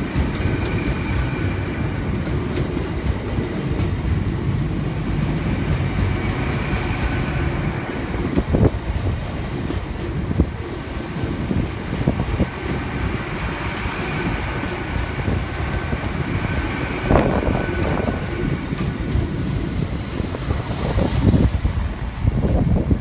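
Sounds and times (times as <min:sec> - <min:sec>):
knocks and clatters over track: 0:00.0 - 0:23.0
train wheels rumbling: 0:00.0 - 0:23.0.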